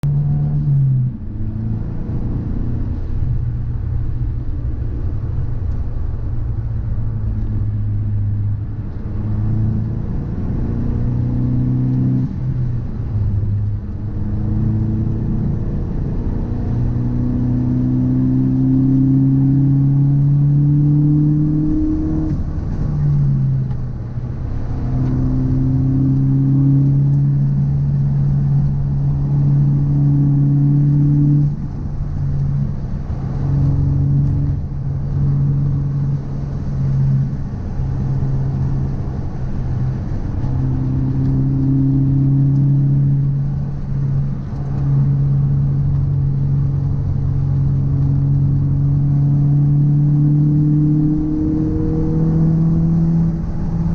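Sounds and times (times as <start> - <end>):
car engine revving: 0.0 - 53.9
road rumble: 0.0 - 53.9.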